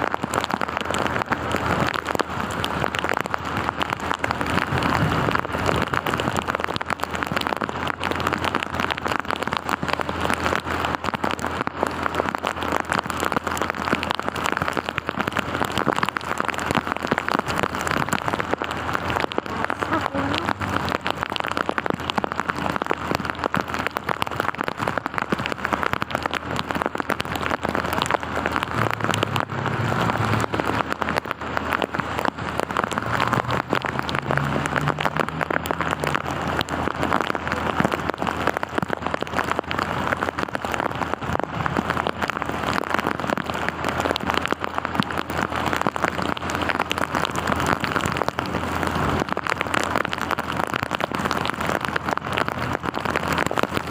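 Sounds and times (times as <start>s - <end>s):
heavy rain falling: 0.0s - 53.9s
low engine hum: 0.0s - 53.9s.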